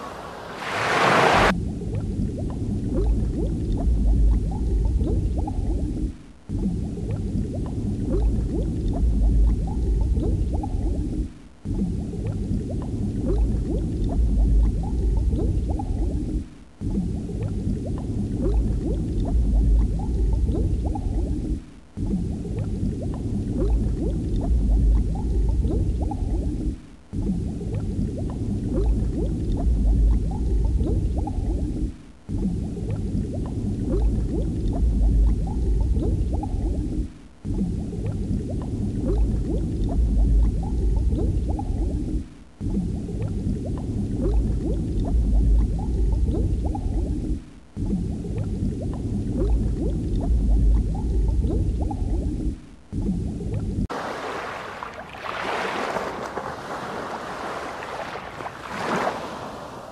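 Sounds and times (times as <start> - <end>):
water bubbling and gurgling: 0.0 - 59.9.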